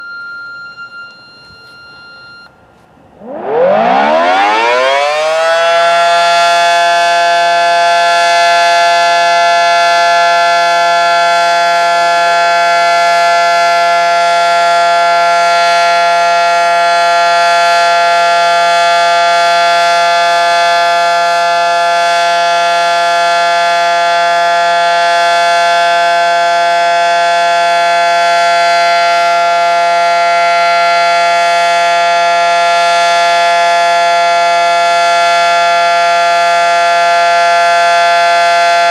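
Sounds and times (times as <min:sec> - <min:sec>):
warning siren wailing: 0:00.0 - 0:02.5, 0:03.2 - 0:38.9.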